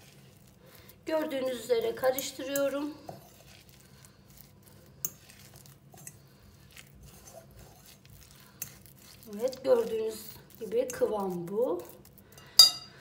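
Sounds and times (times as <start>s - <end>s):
fork scraping in glass bowl: 1.2s - 12.9s.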